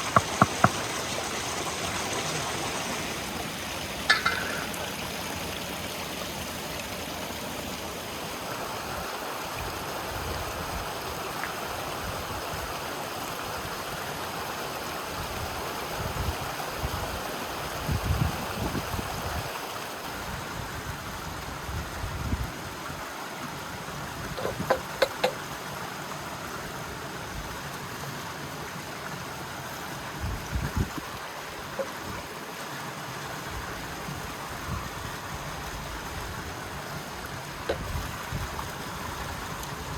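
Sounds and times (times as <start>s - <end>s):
river water rushing: 0.0s - 17.8s, 22.6s - 39.9s.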